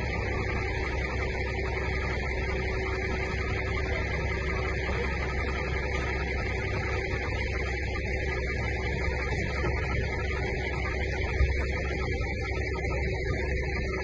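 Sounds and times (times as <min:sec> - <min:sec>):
tracked vehicle engine idling: 0:00.0 - 0:14.0.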